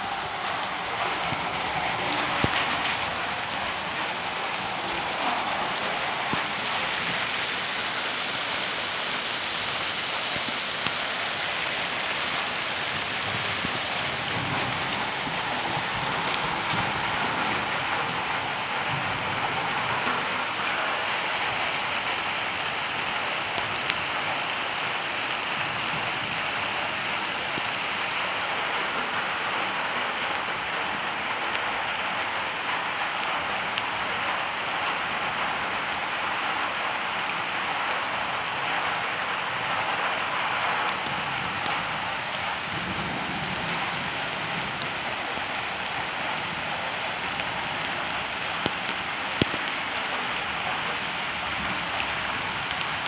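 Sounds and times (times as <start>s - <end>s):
rain falling on trees: 0.0s - 53.0s.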